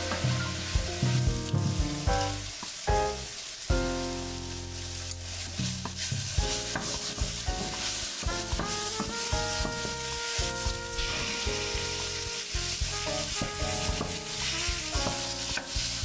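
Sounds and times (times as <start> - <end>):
background music with bass: 0.0 - 16.0
vegetables sizzling in frying pan: 0.0 - 16.0.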